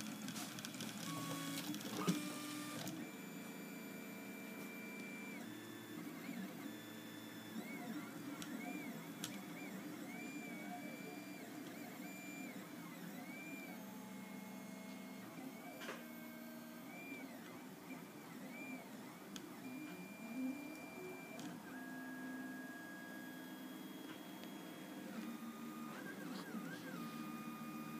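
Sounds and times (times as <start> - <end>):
steady printer hum: 0.0 - 27.9.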